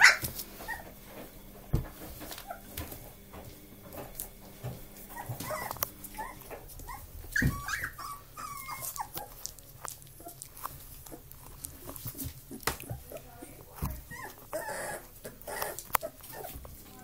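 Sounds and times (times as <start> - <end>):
puppies yipping and whimpering: 0.0 - 1.0, 2.1 - 2.9, 4.9 - 16.8.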